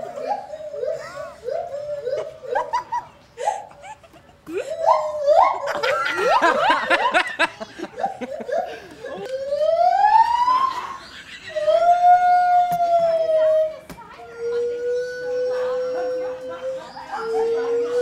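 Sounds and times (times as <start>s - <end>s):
gibbon whooping call: 0.0s - 2.9s, 4.5s - 7.2s, 8.0s - 18.0s.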